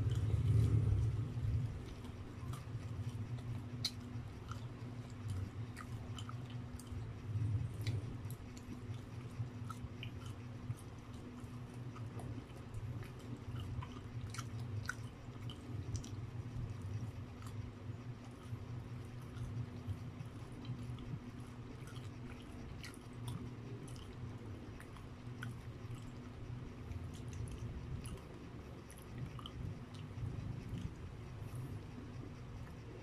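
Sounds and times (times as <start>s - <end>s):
low steady hum: 0.0s - 33.0s
mouth chewing soft food: 0.0s - 33.0s
wet mouth clicks: 0.0s - 33.0s.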